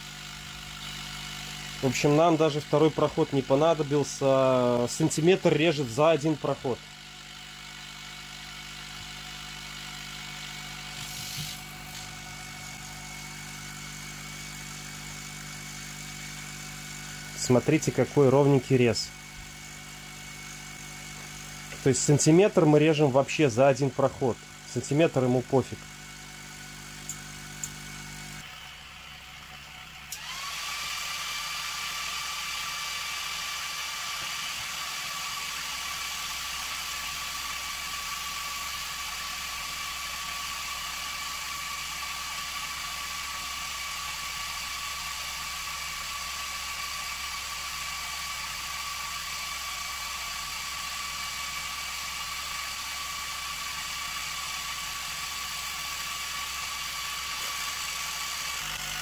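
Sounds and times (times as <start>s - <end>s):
machine whine: 0.0s - 59.0s.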